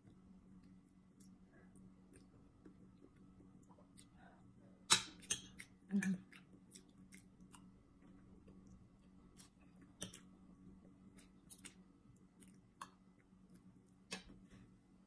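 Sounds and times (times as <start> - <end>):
faint chewing and mouth clicks: 0.0 - 14.8.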